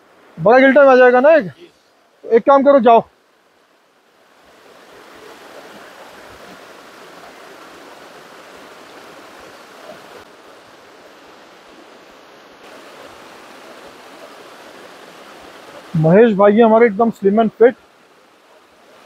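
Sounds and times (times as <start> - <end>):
stream running over stones: 0.0 - 19.0.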